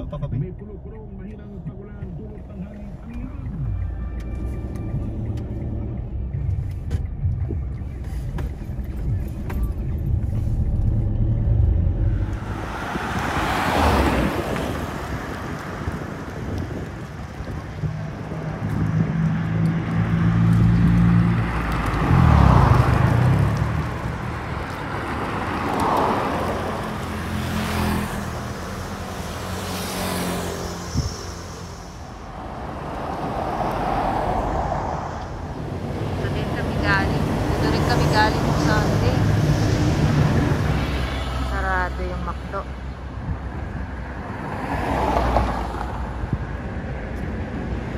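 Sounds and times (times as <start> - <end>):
low engine hum: 0.0 - 47.9
vehicles passing: 0.0 - 47.9.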